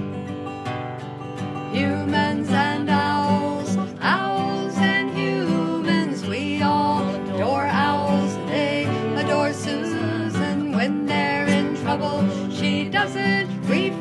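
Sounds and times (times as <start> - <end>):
acoustic guitar strumming: 0.0 - 14.0
person singing: 1.7 - 14.0.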